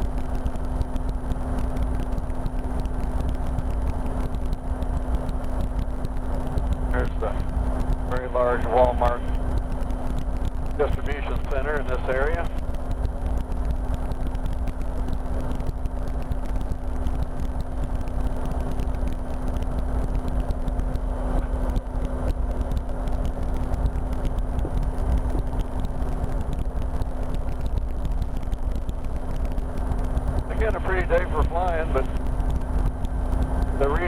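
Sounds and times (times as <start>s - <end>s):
helicopter engine and rotor drone: 0.0s - 34.0s.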